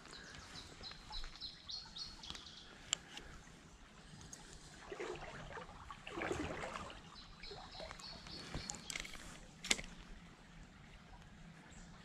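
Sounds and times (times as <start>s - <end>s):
stream trickling: 0.0s - 12.0s.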